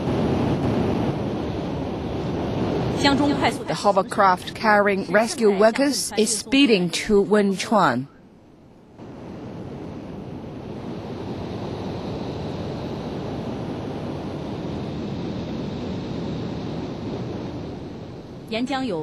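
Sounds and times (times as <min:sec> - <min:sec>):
aircraft cabin engine noise: 0:00.0 - 0:08.1, 0:08.9 - 0:19.0
faint high whine: 0:00.0 - 0:19.0.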